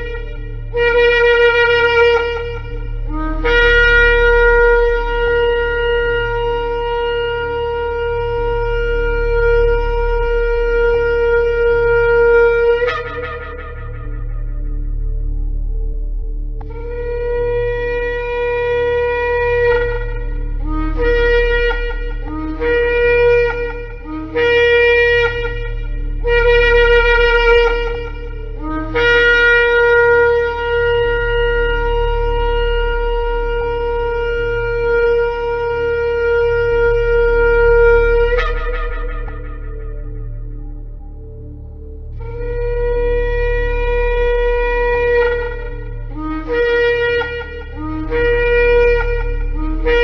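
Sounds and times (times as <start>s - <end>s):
shofar blasts: 0.0s - 50.0s
steady low hum: 0.0s - 50.0s.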